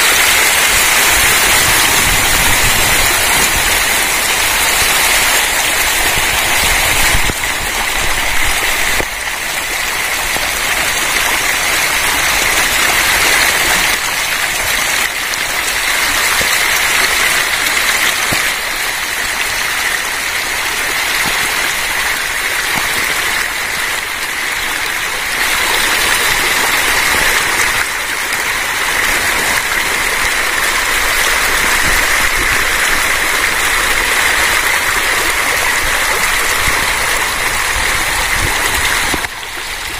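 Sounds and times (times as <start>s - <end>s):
fish splashing and churning water: 0.0s - 39.9s.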